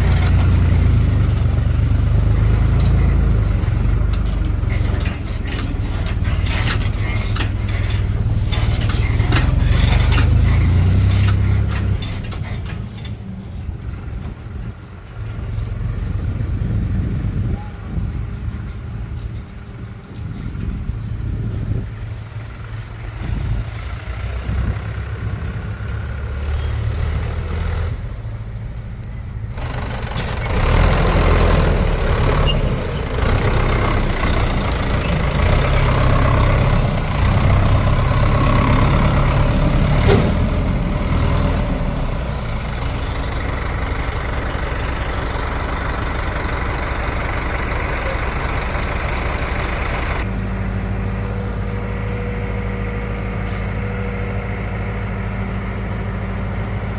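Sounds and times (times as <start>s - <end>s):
diesel machinery engine running: 0.0s - 56.9s.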